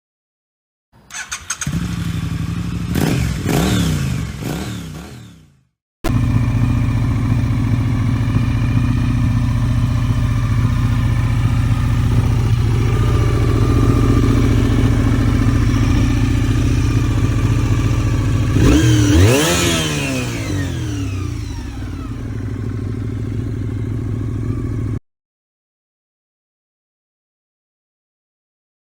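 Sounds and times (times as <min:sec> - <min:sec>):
motorcycle engine revving and idling: 0:01.1 - 0:25.0.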